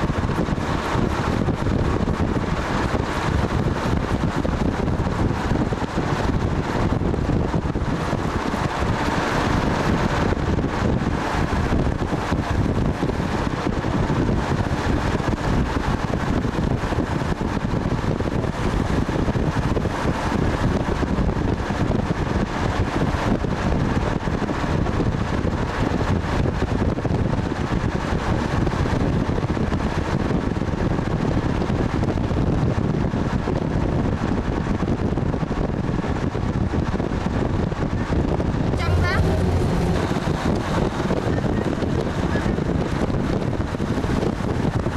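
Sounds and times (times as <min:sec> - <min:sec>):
wind and road noise: 0:00.0 - 0:44.9
wind buffeting microphone: 0:00.0 - 0:44.9.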